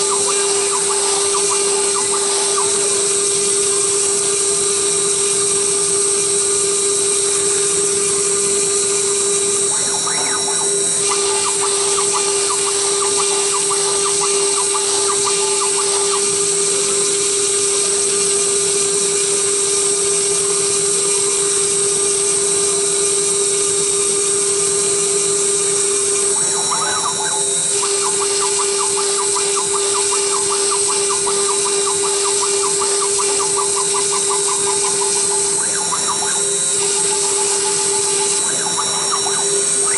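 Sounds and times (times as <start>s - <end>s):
router spindle whining while cutting: 0.0s - 39.9s.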